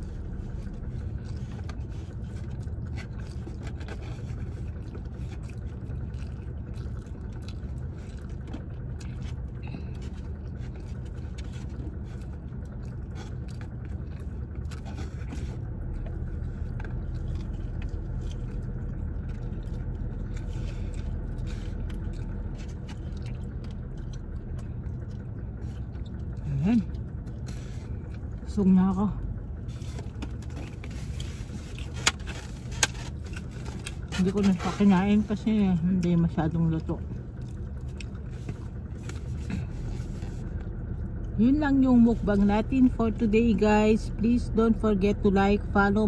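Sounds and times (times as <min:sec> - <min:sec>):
person chewing and eating: 0:00.0 - 0:28.6, 0:29.2 - 0:41.4
steady low rumble: 0:00.0 - 0:46.0.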